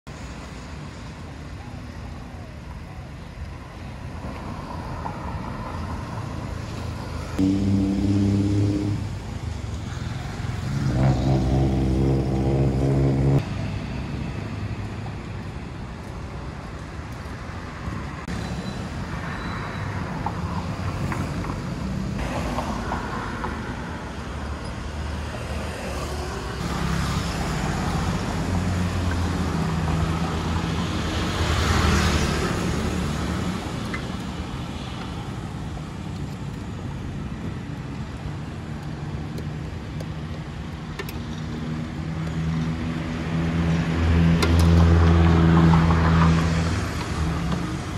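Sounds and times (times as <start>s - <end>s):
vehicle engines passing: 0.1s - 47.9s.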